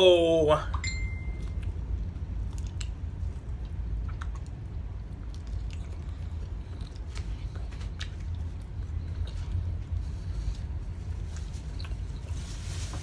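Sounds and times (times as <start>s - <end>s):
deep rumble: 0.0s - 13.0s
chewing and biting: 1.4s - 12.6s.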